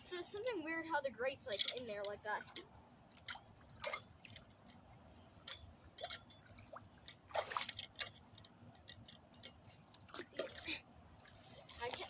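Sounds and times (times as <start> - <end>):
water sloshing and splashing: 0.0 - 12.0
water drips: 1.5 - 12.0.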